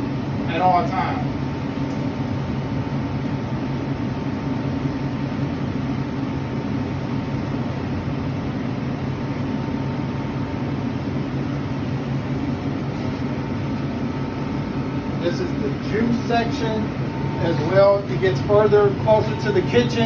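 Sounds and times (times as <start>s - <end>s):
cooler fans whirring: 0.0s - 20.0s
refrigeration hum: 0.0s - 20.0s.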